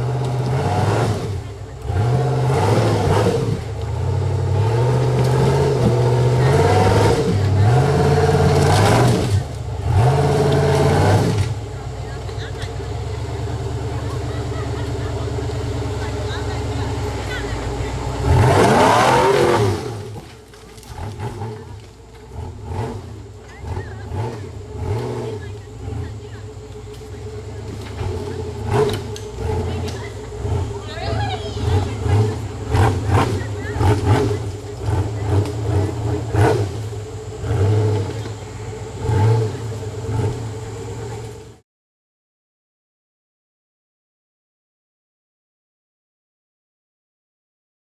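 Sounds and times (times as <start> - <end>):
buggy engine revving: 0.0 - 41.6.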